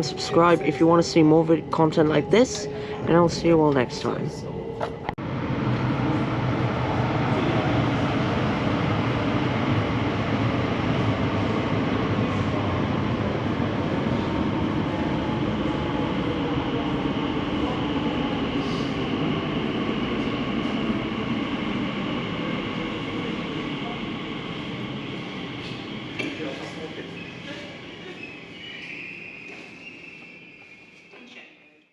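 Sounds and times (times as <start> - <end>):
train wheels rumbling on track: 0.0 - 30.8
faint train whine: 0.0 - 31.8.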